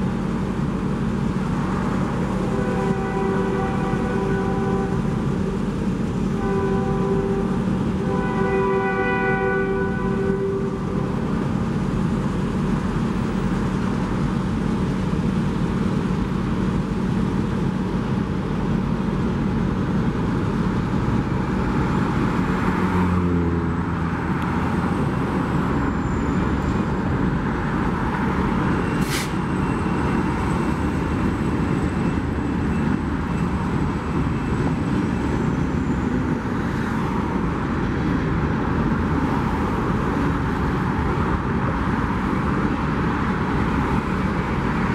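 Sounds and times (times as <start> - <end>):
diesel locomotive engine running: 0.0 - 44.9
road traffic: 0.0 - 44.9.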